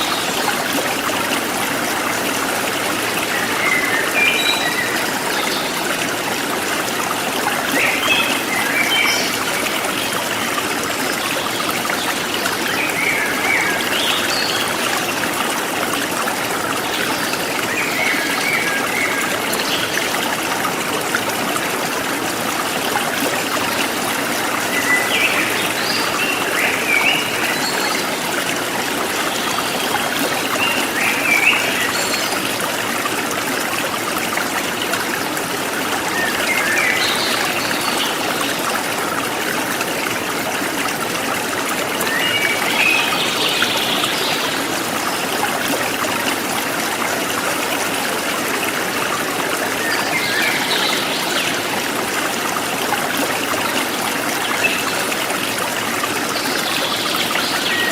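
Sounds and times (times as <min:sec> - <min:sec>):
forest stream trickling: 0:00.0 - 0:57.9.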